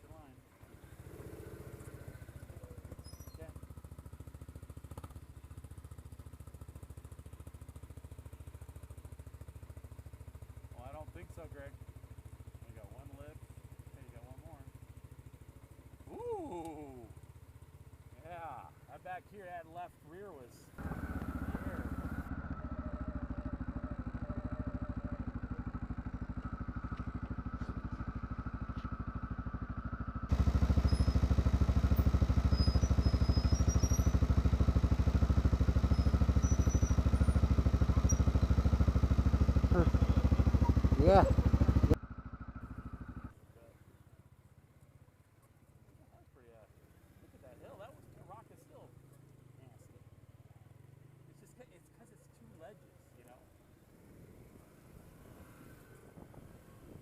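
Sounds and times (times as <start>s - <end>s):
engine idling: 0.0s - 53.6s.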